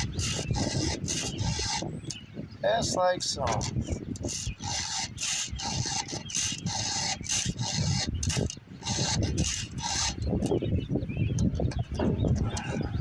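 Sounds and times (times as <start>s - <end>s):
file rasping on chainsaw chain: 0.0s - 2.2s, 2.8s - 12.8s.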